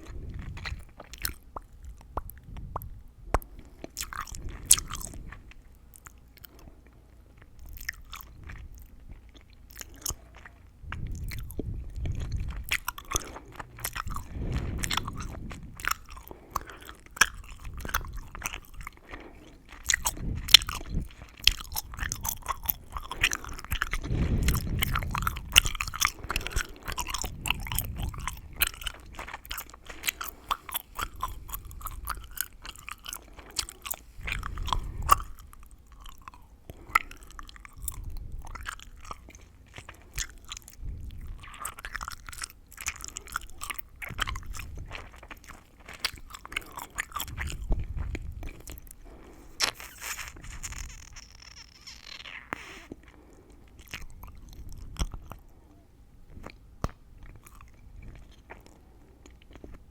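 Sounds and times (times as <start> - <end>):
gum chewing: 0.0 - 59.9.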